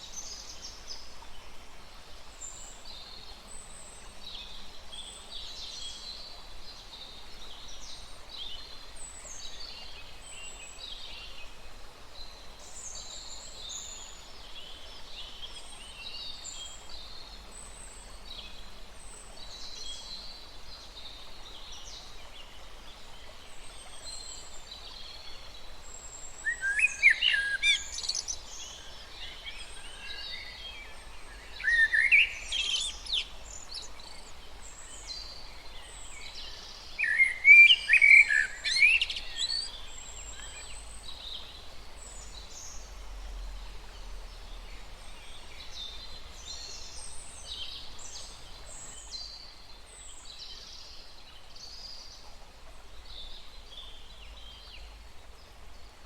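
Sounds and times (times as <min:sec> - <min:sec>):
chorus of faint bird chirps: 0:00.0 - 0:56.0.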